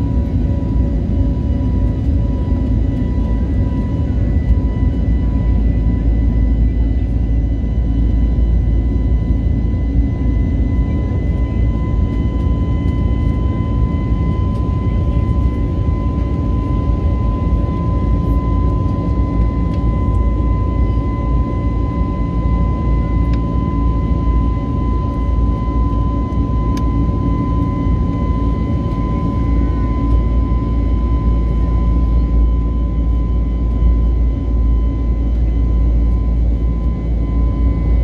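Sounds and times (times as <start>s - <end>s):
high-pitched engine whine: 0.0s - 38.0s
low engine rumble in cabin: 0.0s - 38.0s.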